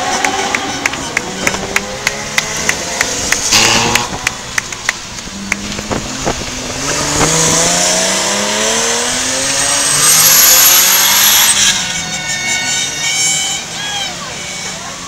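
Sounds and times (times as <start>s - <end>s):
sports car engine revving: 0.0s - 13.6s.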